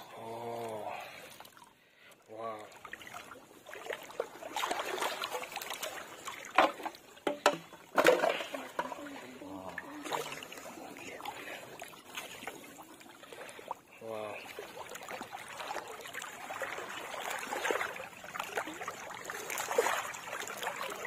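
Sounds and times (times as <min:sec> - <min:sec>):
water splashing and dripping: 0:00.0 - 0:21.0.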